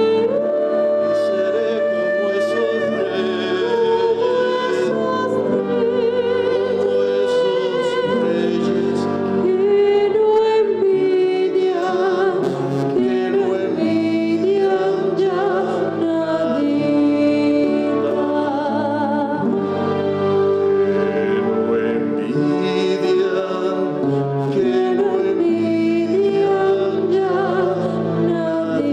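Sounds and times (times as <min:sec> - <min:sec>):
woman singing with vibrato: 0:00.0 - 0:19.8, 0:24.5 - 0:28.9
acoustic guitar: 0:00.0 - 0:28.9
flute: 0:00.0 - 0:28.9.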